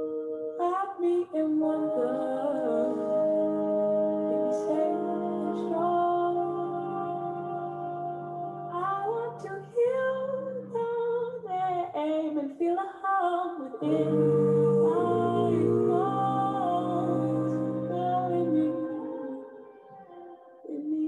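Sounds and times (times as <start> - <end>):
held chords: 0.0 - 11.8, 13.8 - 20.6
woman singing: 0.5 - 7.7, 8.7 - 21.0.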